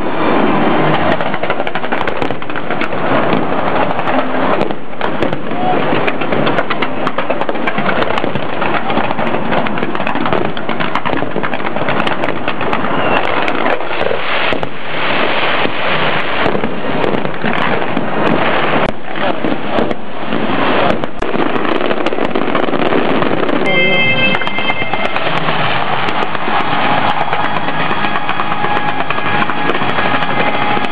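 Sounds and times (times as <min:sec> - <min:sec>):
fireworks popping and banging: 0:00.0 - 0:30.9.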